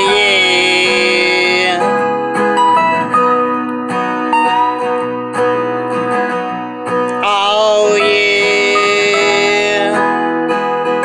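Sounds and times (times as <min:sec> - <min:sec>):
rock ballad with guitar lead: 0:00.0 - 0:11.0.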